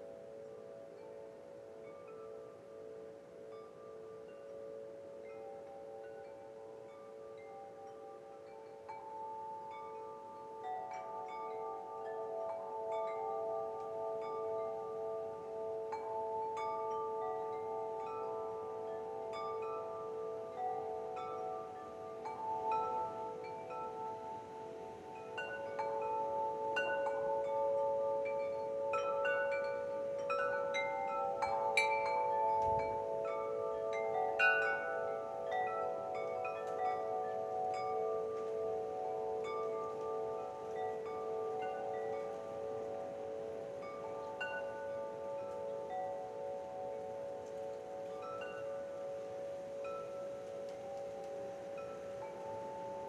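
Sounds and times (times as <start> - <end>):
metal wind chimes ringing: 0.0 - 53.0.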